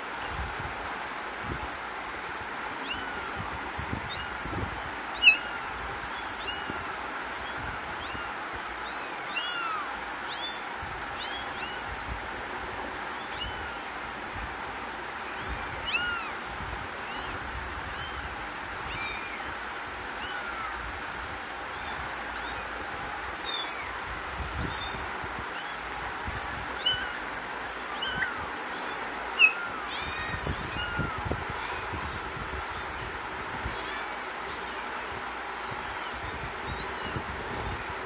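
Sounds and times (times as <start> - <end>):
steady background hiss: 0.0 - 38.0
kittens mewing: 2.8 - 12.3, 13.1 - 14.3, 15.2 - 37.9.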